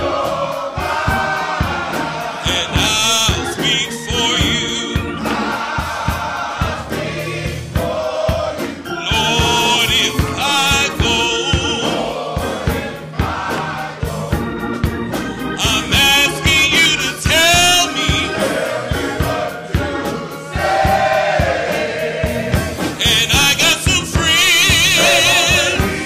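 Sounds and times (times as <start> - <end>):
church band playing: 0.0 - 26.0
gospel choir singing: 0.0 - 26.0
steady drum beat: 0.0 - 26.0.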